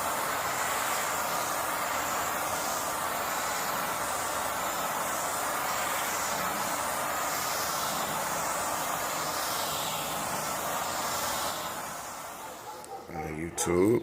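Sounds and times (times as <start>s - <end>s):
gas torch hissing: 0.0s - 14.0s.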